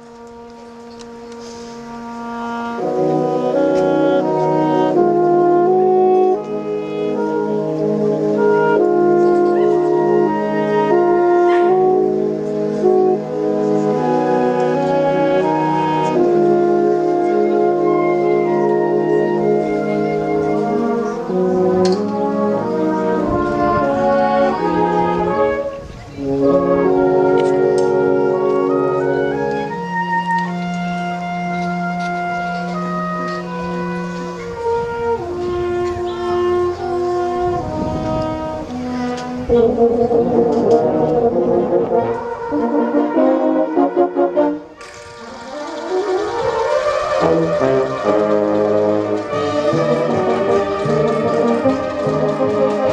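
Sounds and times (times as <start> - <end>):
wind band playing: 0.0 - 52.9.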